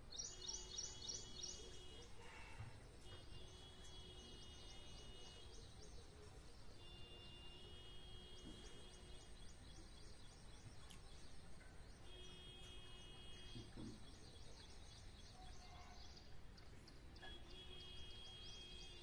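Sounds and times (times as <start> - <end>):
faint outdoor background noise: 0.0 - 19.0.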